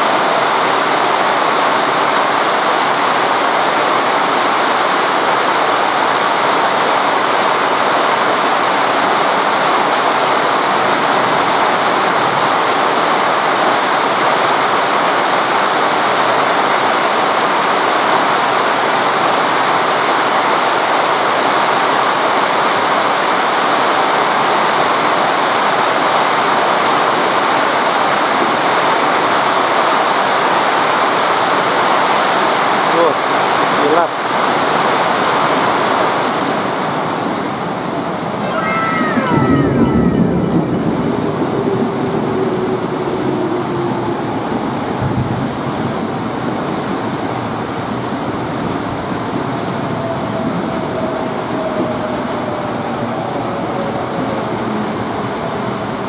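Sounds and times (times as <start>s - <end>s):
torrential rain pouring: 0.0s - 56.0s.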